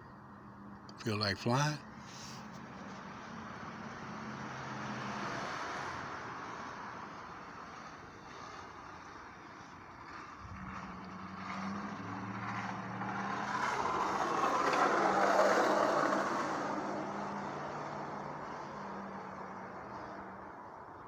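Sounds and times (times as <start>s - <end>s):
vehicle passing by: 2.0s - 21.0s.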